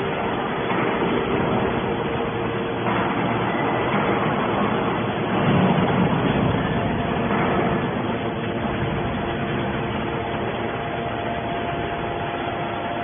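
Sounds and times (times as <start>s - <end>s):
hydraulic machine hum and whine: 0.0s - 13.0s.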